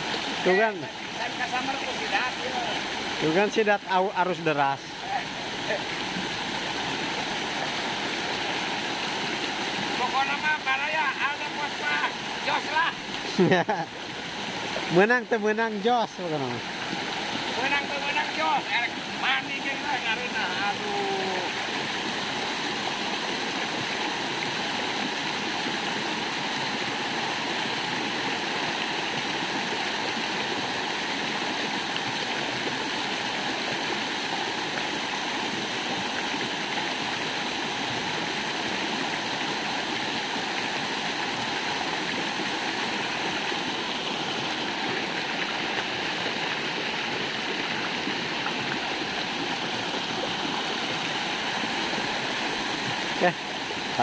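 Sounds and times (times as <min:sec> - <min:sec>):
water rushing over boulders: 0:00.0 - 0:54.0.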